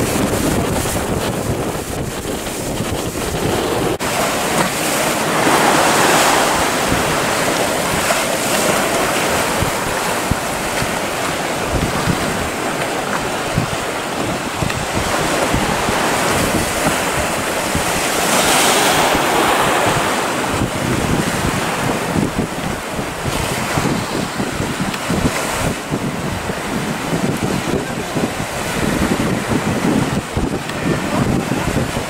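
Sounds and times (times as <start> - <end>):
waves breaking on choppy sea: 0.0 - 32.0
wind buffeting microphone: 0.0 - 32.0.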